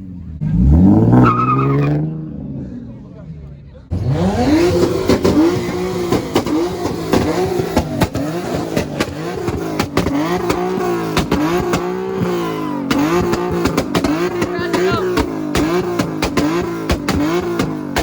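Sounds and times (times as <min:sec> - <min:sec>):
car engine revving: 0:00.0 - 0:18.0
exhaust crackles: 0:00.0 - 0:18.0.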